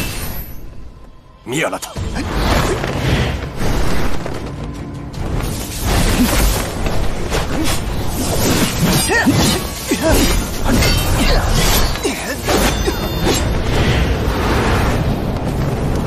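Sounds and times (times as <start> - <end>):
dramatic background music: 0.0 - 16.0.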